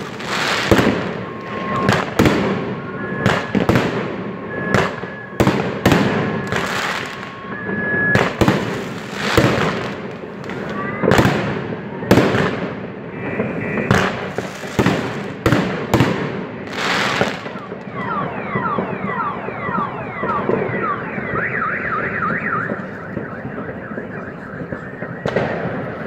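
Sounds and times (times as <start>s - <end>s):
fireworks banging: 0.0s - 19.2s, 22.5s - 26.0s
car alarm siren: 0.0s - 26.0s.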